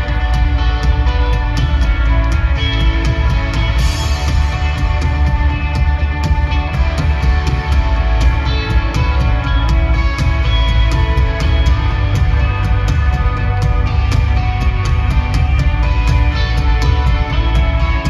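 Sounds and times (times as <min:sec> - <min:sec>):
bass guitar: 0:00.0 - 0:18.0
electric guitar: 0:00.0 - 0:18.0.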